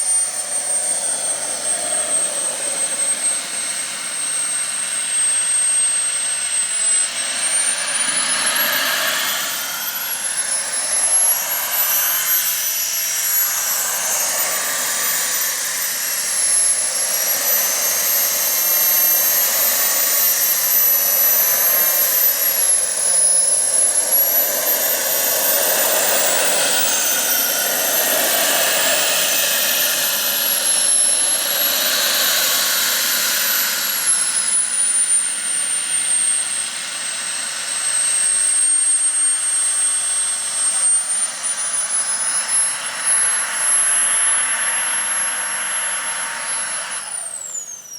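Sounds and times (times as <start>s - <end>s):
model jet turbine roar and whine: 0.0s - 47.9s.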